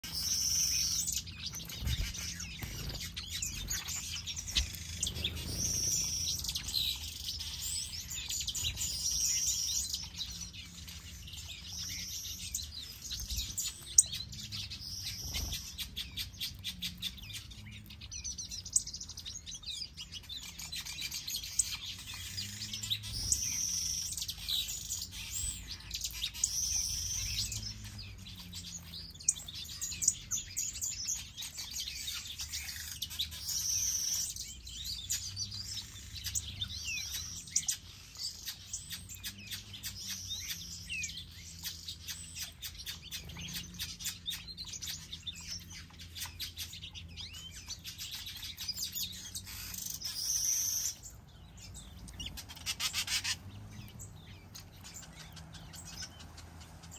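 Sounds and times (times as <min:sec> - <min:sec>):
finches chirping and twittering: 0:00.0 - 0:56.9.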